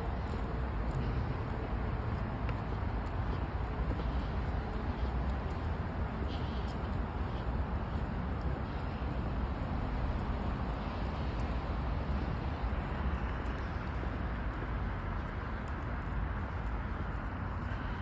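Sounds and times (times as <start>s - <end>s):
footsteps on stone paving: 0.0s - 18.0s
outdoor rumble and hiss: 0.0s - 18.0s.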